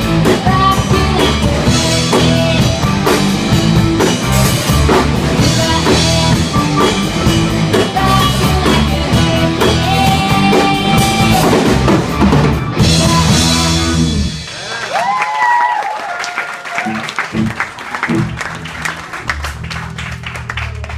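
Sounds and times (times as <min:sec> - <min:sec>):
rock music: 0:00.0 - 0:15.6, 0:16.6 - 0:20.9
drum kit beating: 0:00.0 - 0:20.9.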